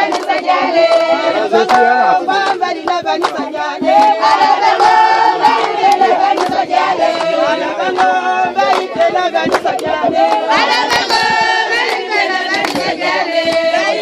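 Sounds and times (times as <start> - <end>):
crowd singing: 0.0 - 14.0
hand claps: 0.0 - 14.0.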